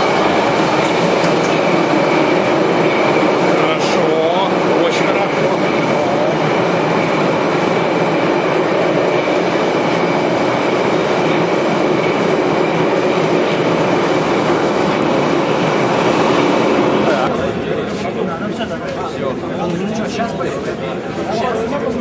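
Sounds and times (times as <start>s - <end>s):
train wheels rolling on rail: 0.0s - 22.0s.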